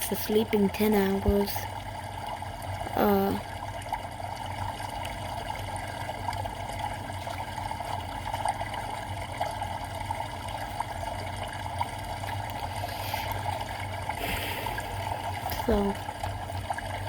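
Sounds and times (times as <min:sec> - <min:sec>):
water trickling with drips: 0:00.0 - 0:17.0.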